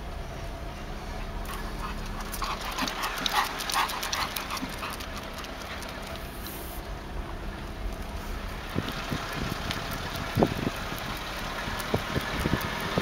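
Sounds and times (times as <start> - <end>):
car running noise: 0.0 - 13.0.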